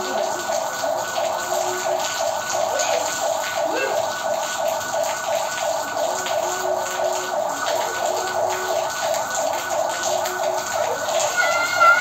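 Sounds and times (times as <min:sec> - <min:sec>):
rain on a tiled yard: 0:00.0 - 0:12.0
water drips and splashes: 0:00.0 - 0:12.0.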